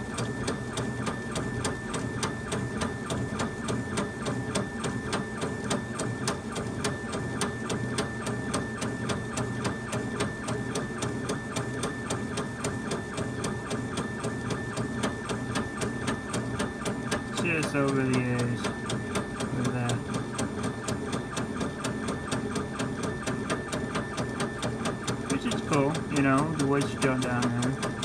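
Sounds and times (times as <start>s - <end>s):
laser engraver head whine: 0.0s - 28.0s.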